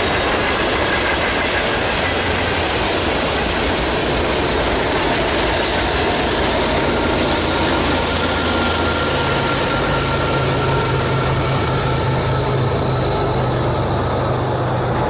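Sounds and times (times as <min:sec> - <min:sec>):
locomotive engines droning: 0:00.0 - 0:15.0
thin steady whine: 0:00.0 - 0:15.0
train wheels clattering on rails: 0:00.0 - 0:15.0.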